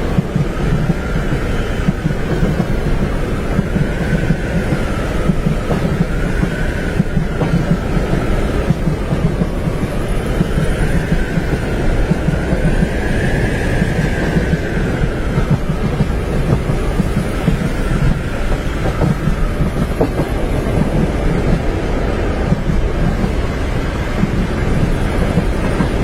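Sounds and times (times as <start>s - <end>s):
train wheels rumbling: 0.0s - 26.0s.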